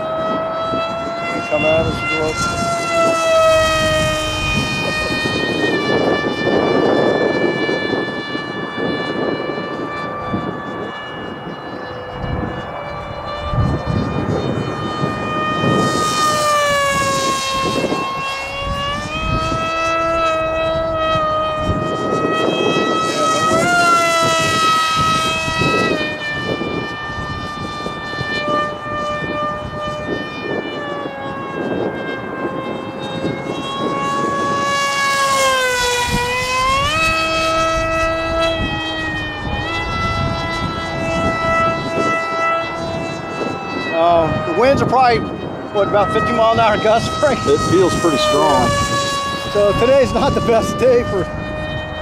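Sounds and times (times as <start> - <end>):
model plane motor whining: 0.0 - 52.0
wind buffeting microphone: 0.0 - 52.0.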